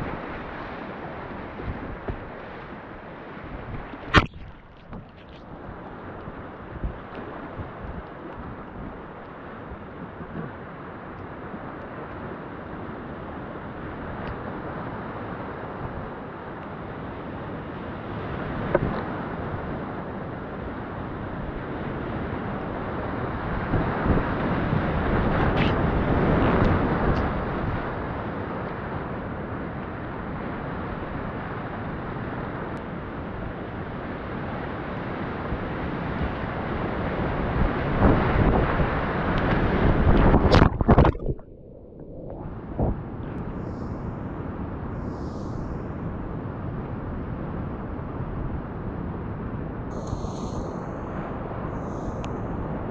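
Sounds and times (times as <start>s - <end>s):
wind rumble on microphone: 0.0s - 52.9s.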